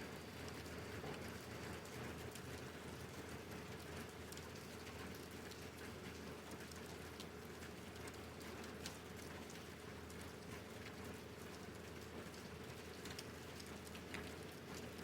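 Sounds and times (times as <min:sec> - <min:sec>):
faint steady hum: 0:00.0 - 0:15.0
raindrops ticking on a surface: 0:00.0 - 0:15.0.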